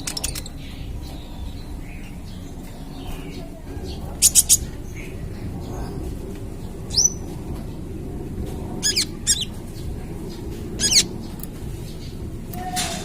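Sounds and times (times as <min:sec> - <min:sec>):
bird chirping: 0:00.0 - 0:07.4, 0:08.8 - 0:12.2
low background rumble: 0:00.0 - 0:13.0.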